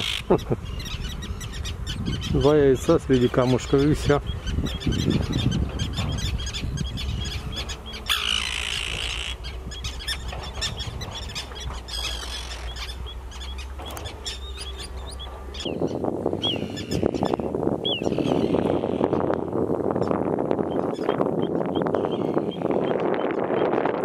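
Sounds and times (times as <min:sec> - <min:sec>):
tern colony calling: 0:00.0 - 0:23.1.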